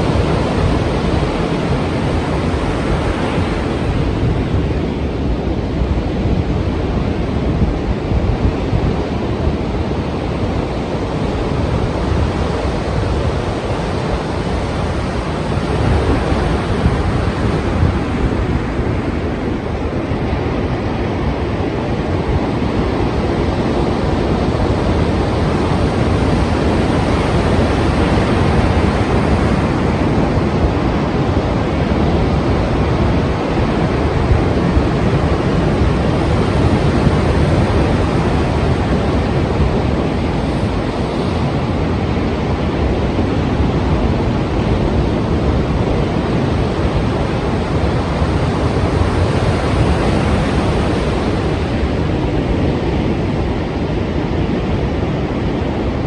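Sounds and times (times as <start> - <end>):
ocean waves breaking: 0.0 - 56.0
wind: 0.0 - 56.0.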